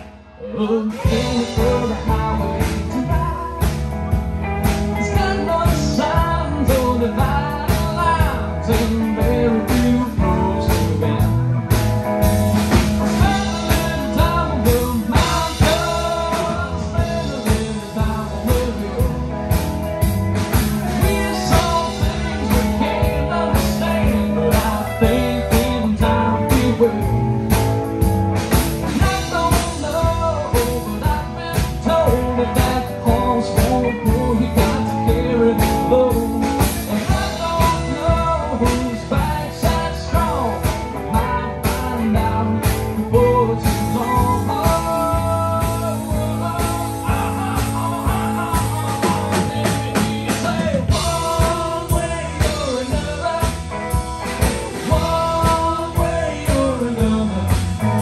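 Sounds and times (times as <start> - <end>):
live band playing bluesy rock: 0.0 - 58.0
steady drum beat: 0.9 - 58.0.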